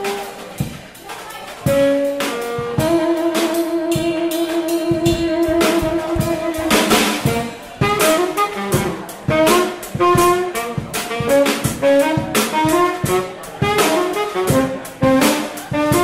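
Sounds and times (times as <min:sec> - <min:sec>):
drum kit: 0:00.0 - 0:16.0
saxophone long notes: 0:01.6 - 0:16.0.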